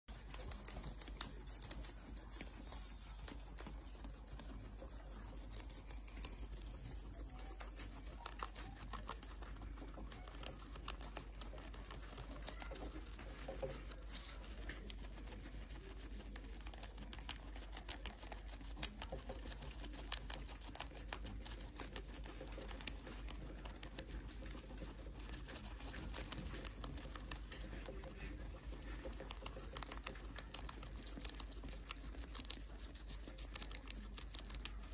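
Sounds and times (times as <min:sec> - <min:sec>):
guinea pig chewing: 0:00.0 - 0:34.9.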